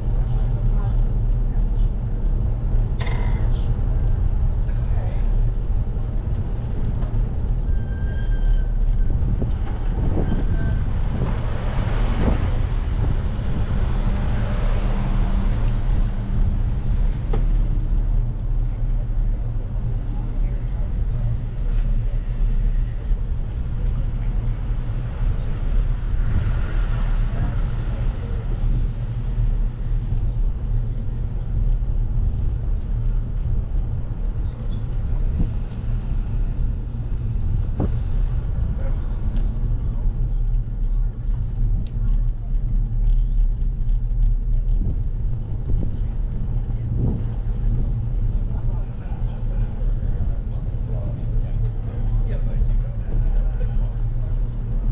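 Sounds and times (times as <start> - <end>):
bicycle tyres on pavement: 0.0 - 54.9
wind on the microphone: 0.0 - 54.9.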